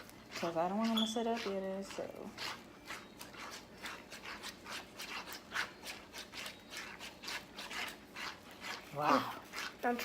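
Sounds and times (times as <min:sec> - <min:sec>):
slime being stirred in a bowl: 0:00.0 - 0:10.0.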